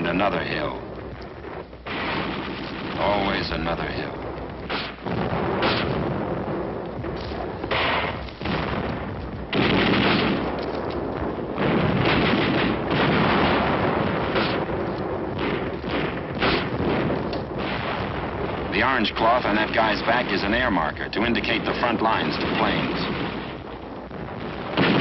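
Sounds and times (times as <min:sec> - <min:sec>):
heavy blasts: 0:00.0 - 0:25.0
rifle and machine-gun fire: 0:00.0 - 0:25.0.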